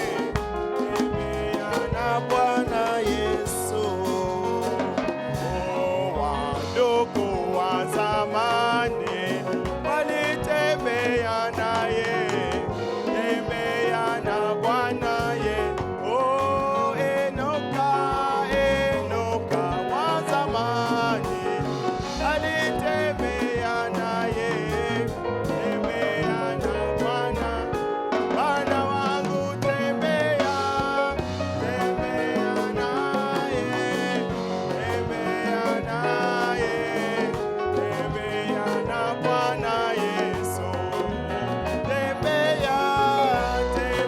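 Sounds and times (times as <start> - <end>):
band playing gospel song: 0.0 - 44.0
people singing: 0.0 - 44.0.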